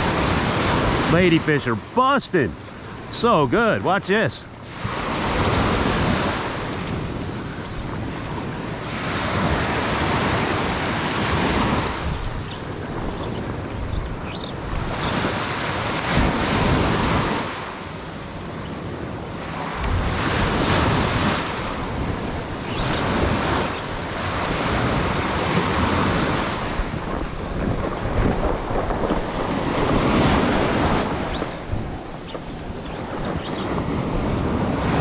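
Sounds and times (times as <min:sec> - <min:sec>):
waves breaking on a beach: 0:00.0 - 0:35.0
wind buffeting microphone: 0:04.5 - 0:17.6, 0:18.2 - 0:35.0.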